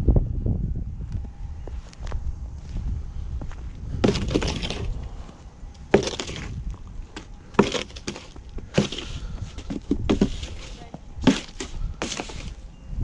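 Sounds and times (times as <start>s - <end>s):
footsteps crunching in icy snow: 1.7s - 12.6s.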